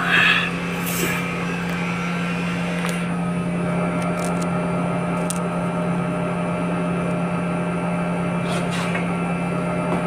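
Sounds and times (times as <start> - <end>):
electric pumps humming: 0.0 - 10.0.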